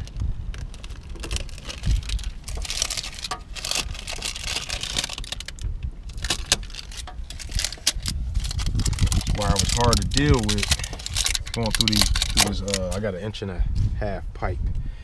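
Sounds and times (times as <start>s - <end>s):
hands handling electrical wire: 0.0s - 13.0s
rustling: 0.0s - 13.0s.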